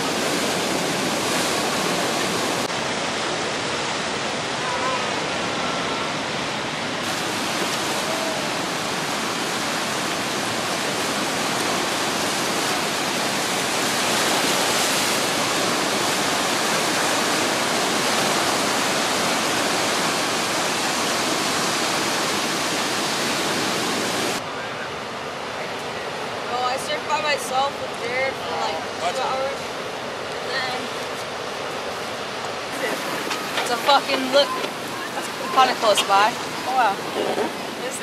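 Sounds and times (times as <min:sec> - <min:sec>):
ocean surf breaking: 0:00.0 - 0:38.0.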